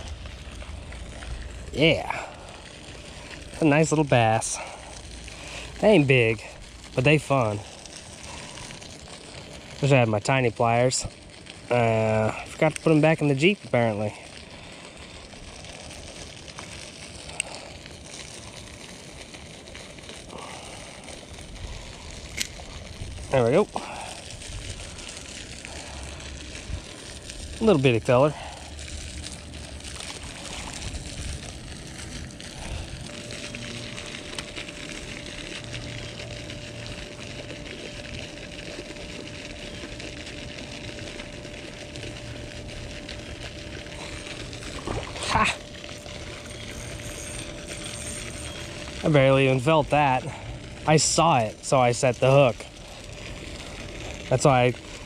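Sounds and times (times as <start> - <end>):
faint steady hum: 0.0 - 55.0
outdoor hiss and rumble: 0.0 - 55.0.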